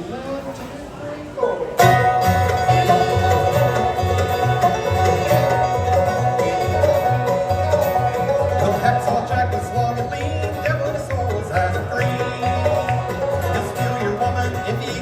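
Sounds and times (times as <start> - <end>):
banjo picking: 1.8 - 15.0
bass line: 1.8 - 15.0
guitar: 1.8 - 15.0.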